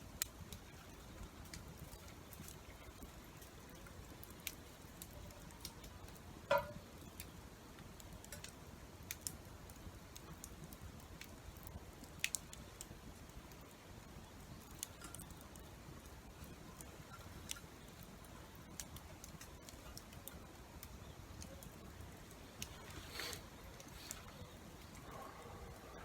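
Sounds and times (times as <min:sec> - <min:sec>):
campfire crackling: 0:00.0 - 0:26.0
rain pattering and dripping: 0:00.0 - 0:26.0.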